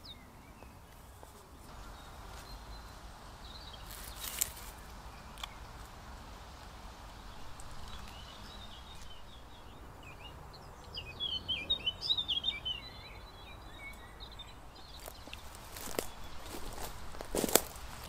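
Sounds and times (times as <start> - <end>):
songbird chirping: 0.0 - 18.0
steady background noise: 0.0 - 18.0.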